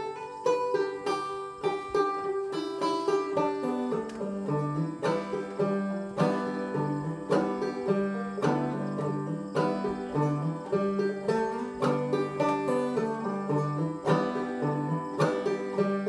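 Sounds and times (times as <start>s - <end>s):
banjos playing: 0.0s - 16.0s.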